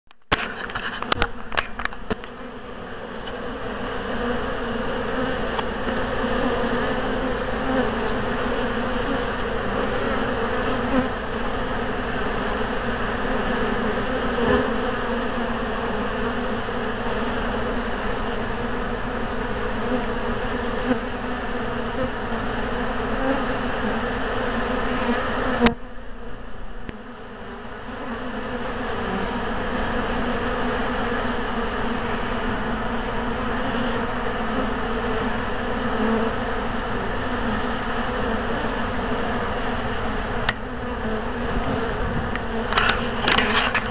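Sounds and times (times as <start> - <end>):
honey bees buzzing: 0.3 - 43.9.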